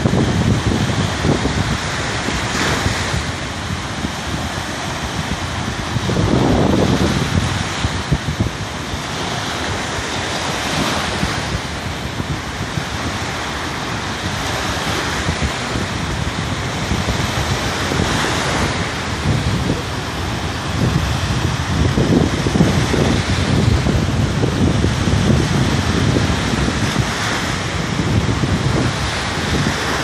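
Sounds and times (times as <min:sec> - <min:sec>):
surf on a beach: 0:00.0 - 0:30.0
wind buffeting microphone: 0:00.0 - 0:30.0.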